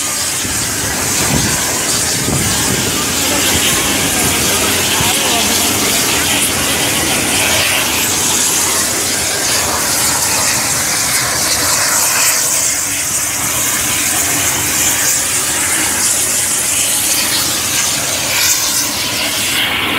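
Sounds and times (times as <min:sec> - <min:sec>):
helicopter turbine and rotor noise: 0:00.0 - 0:19.9.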